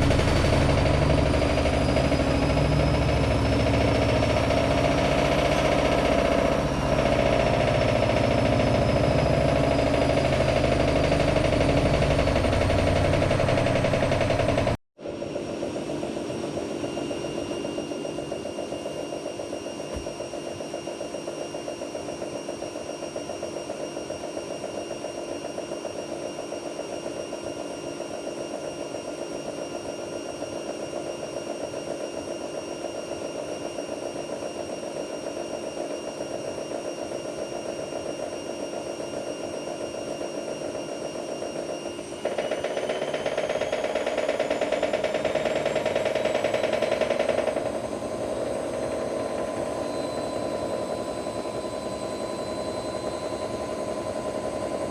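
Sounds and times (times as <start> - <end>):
washing machine motor whine: 0.0 - 54.9.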